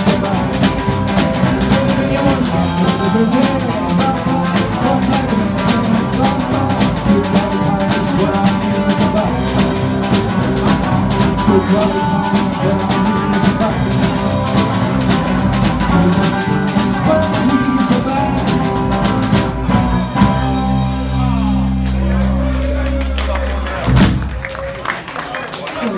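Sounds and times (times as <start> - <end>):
busy drumming: 0.0 - 25.2
rock and roll band playing: 0.0 - 25.2.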